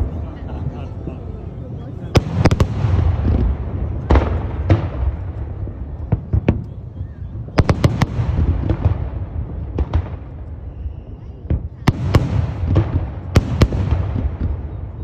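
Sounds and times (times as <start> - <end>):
low rumble: 0.0 - 15.0
fireworks bangs and cracks: 2.1 - 15.0.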